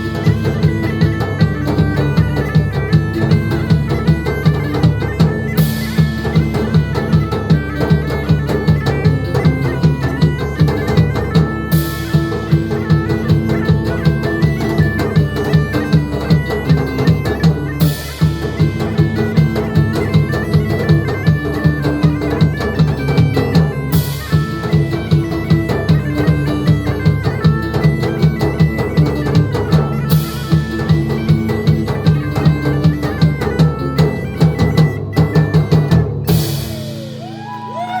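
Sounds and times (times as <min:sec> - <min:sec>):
bagpipes with drone: 0:00.0 - 0:38.0
driving drum beat: 0:00.0 - 0:38.0.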